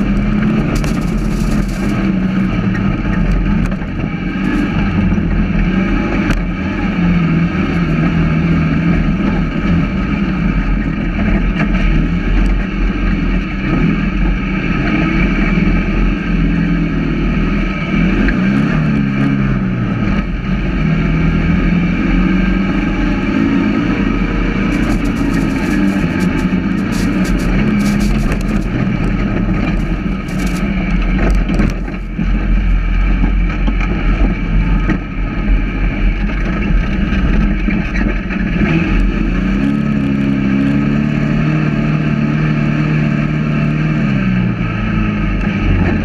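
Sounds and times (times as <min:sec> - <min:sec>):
dune buggy engine revving: 0:00.0 - 0:46.0
wind and tyres rumbling: 0:00.0 - 0:46.0.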